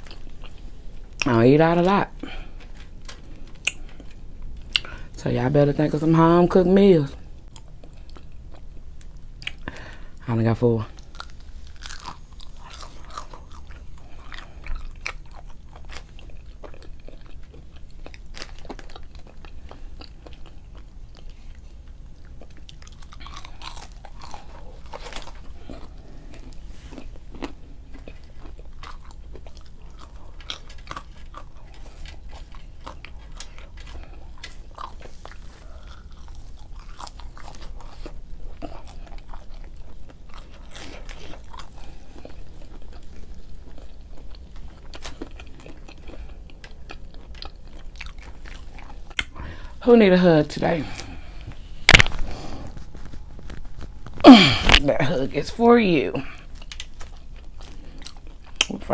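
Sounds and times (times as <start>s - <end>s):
person chewing and crunching food: 0.0s - 55.2s, 55.9s - 58.9s.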